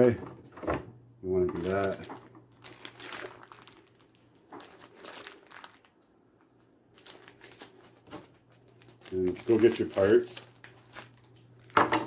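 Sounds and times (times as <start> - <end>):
crinkling rustling handling noise: 1.3 - 12.0.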